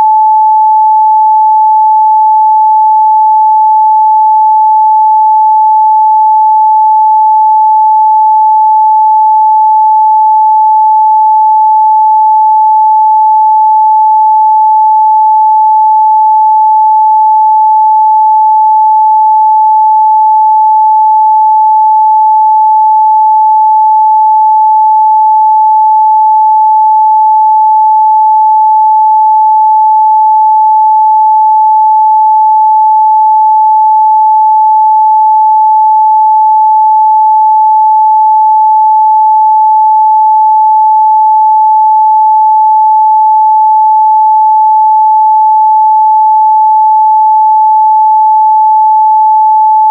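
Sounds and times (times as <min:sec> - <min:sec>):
sine-wave test tone: 0:00.0 - 0:49.9.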